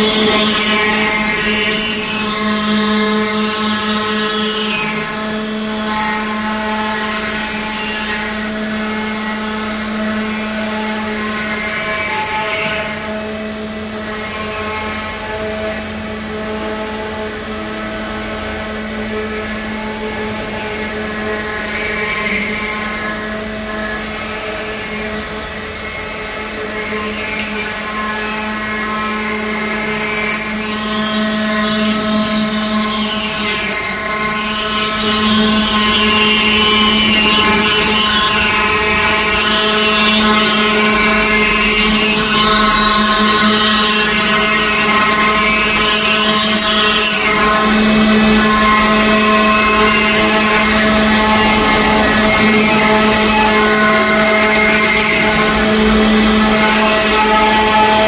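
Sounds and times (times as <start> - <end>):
router spindle motor whine: 0.0 - 58.0.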